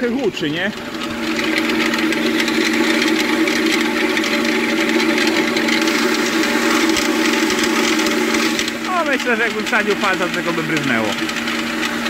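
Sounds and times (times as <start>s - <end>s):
cutting disc spinning with drone: 0.0s - 12.0s.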